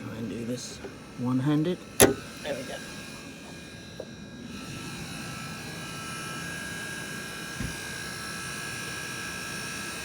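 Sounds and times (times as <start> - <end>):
air conditioning buzz and whine: 0.0 - 10.0.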